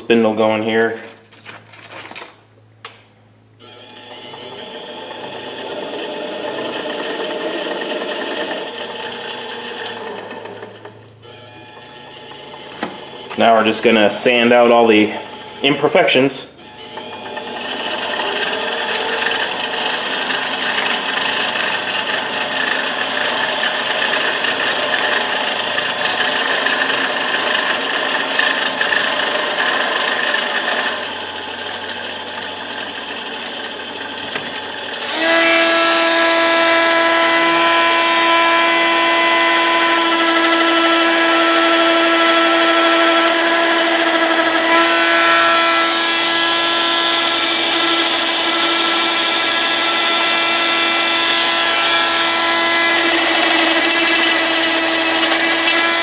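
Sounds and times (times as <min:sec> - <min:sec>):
rotary tool high whine: 0:03.4 - 0:56.0
metal lathe turning: 0:03.6 - 0:56.0.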